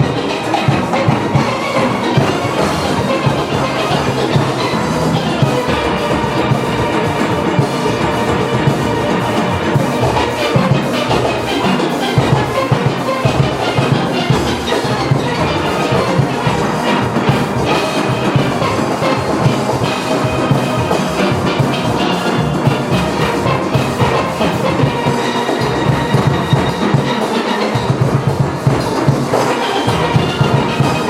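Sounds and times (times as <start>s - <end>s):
percussion beat: 0.0s - 31.0s
steelpans playing: 0.0s - 31.0s.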